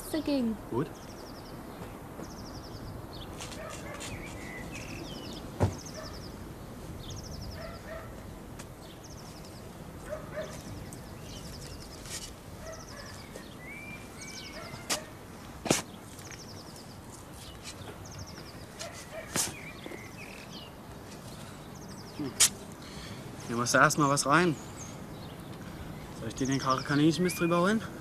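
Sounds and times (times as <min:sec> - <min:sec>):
birds trilling and chirping: 0:00.0 - 0:28.0.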